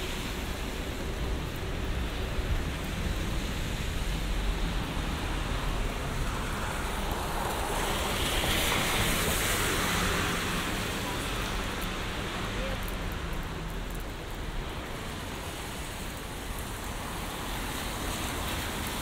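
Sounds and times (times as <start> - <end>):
rain hiss: 0.0 - 19.0
tyre hiss on wet asphalt: 0.0 - 19.0.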